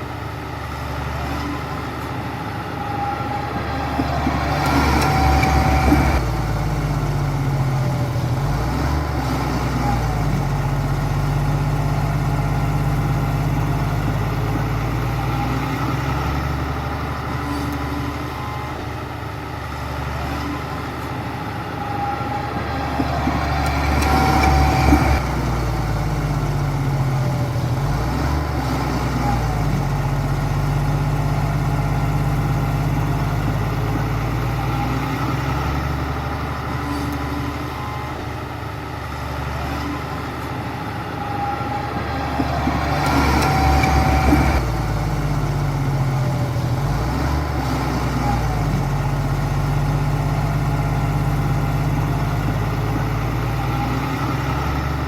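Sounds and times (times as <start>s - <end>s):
bulldozer diesel engine working: 0.0s - 55.0s.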